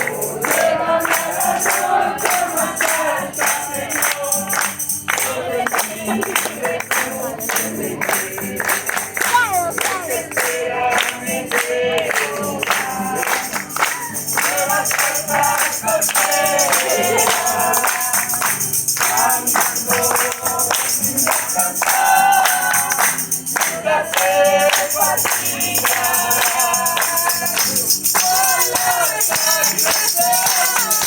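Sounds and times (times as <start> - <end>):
group singing worship chorus: 0.0 - 31.0
percussion beat: 0.0 - 31.0.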